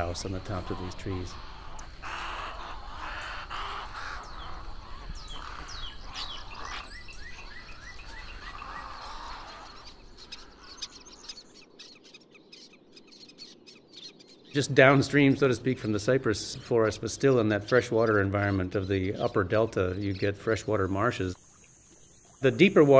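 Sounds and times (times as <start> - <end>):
herons squawking: 0.0 - 22.9.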